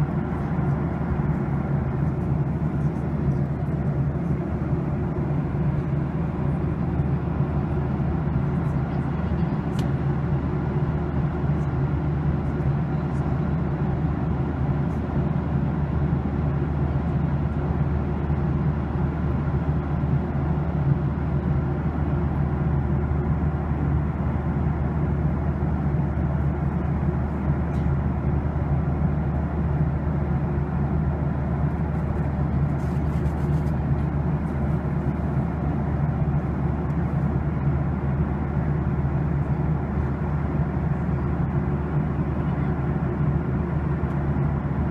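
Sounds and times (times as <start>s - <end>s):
airplane cabin noise: 0.0s - 44.9s.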